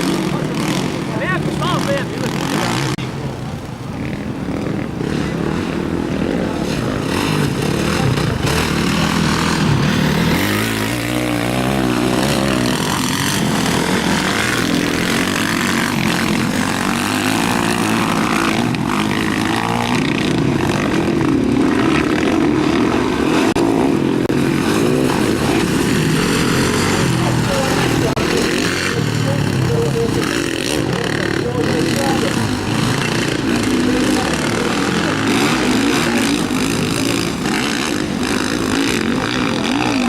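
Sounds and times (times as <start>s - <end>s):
motocross motorcycles revving: 0.0s - 40.0s.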